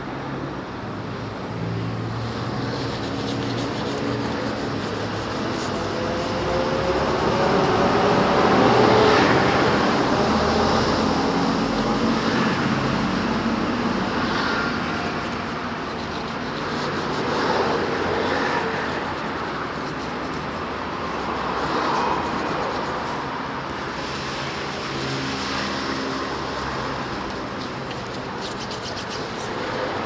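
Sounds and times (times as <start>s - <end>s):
vehicle engines passing: 0.0s - 30.0s.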